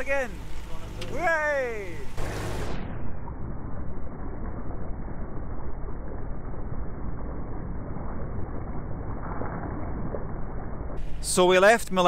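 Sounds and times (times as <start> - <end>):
water rushing past hull: 0.0 - 12.0.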